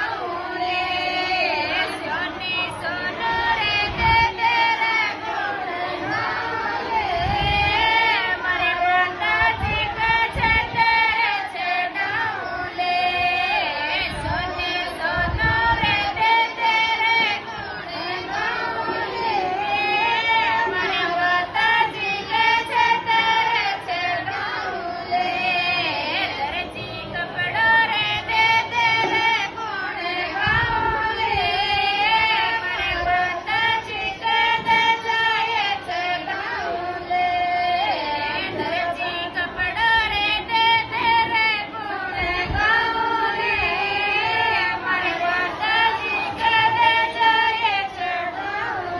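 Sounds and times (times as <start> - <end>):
women singing devotional folk song: 0.0 - 48.9.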